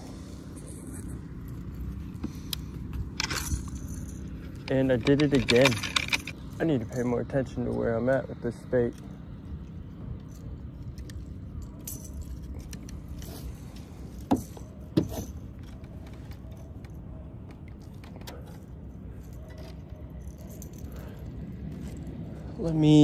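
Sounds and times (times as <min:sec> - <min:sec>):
low steady rumble: 0:00.0 - 0:23.0
fishing tackle clinking and rattling: 0:00.7 - 0:23.0.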